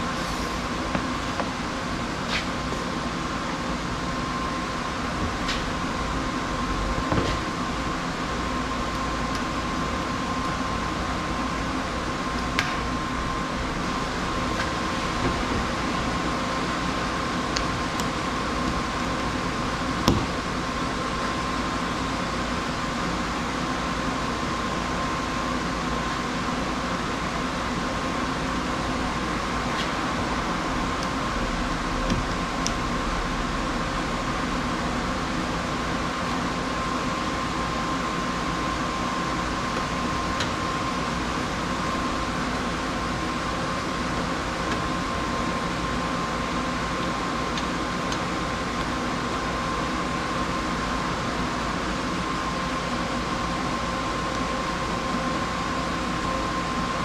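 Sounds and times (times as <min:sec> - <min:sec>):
mechanical fan hum: 0:00.0 - 0:57.0.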